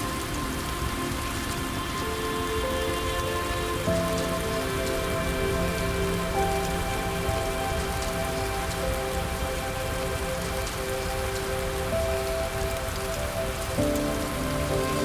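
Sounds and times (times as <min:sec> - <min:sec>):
rain pattering: 0:00.0 - 0:15.0
soft ambient music: 0:00.0 - 0:15.0.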